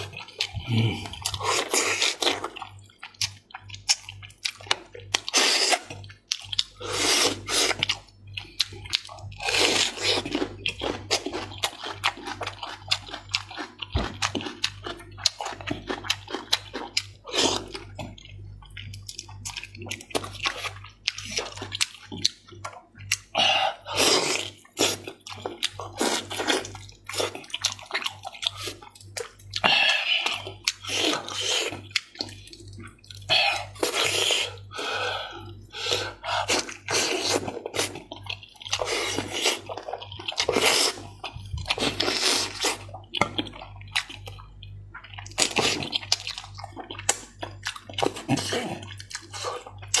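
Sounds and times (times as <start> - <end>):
wet chewing and lip-smacking: 0.0 - 50.0.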